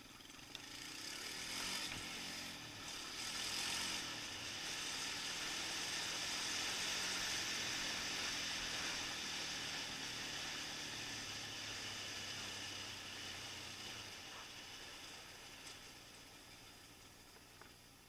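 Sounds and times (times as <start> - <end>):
quad bike engine at low revs: 0.0 - 18.0
wind and road noise: 0.0 - 18.0.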